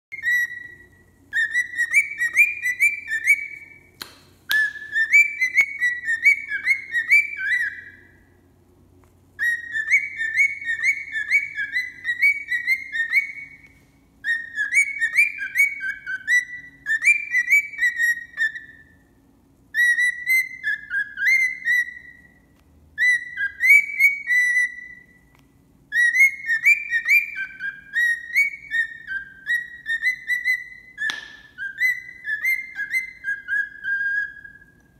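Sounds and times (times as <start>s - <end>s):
cockatiel whistling song: 0.1s - 8.4s, 9.4s - 34.9s.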